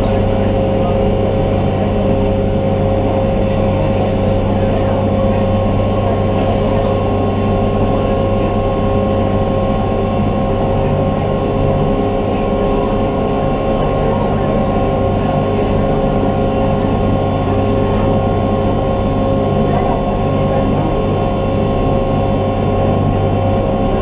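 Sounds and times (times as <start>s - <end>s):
ferry engine drone: 0.0s - 24.0s.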